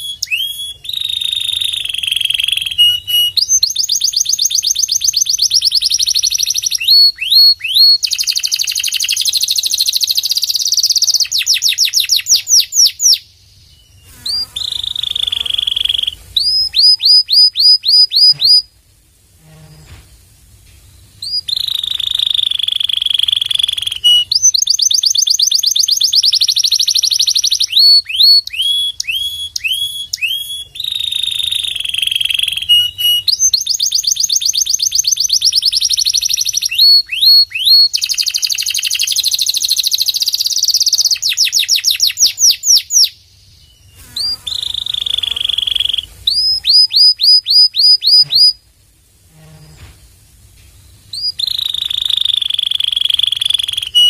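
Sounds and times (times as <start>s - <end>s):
canary singing: 0.0s - 18.7s, 21.2s - 48.6s, 51.0s - 54.0s.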